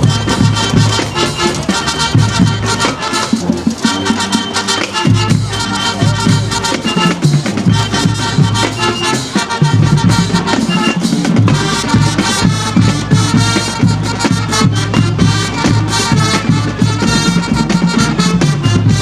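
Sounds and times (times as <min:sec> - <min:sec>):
brass: 0:00.0 - 0:19.0
drums: 0:00.0 - 0:19.0
marching band playing: 0:00.0 - 0:19.0.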